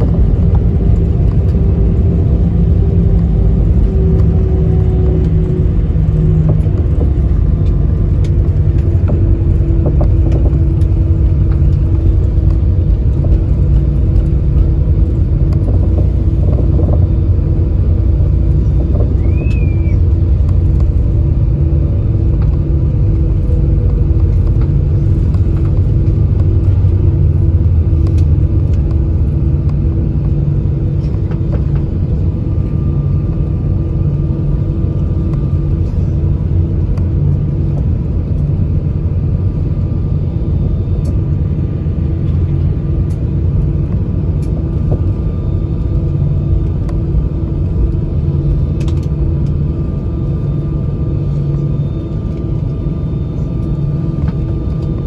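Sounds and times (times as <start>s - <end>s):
engine and wheel rumble: 0.0s - 55.0s.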